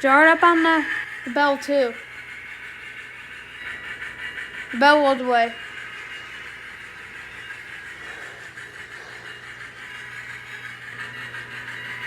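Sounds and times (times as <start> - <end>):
model steam locomotive running sound: 0.0 - 12.0.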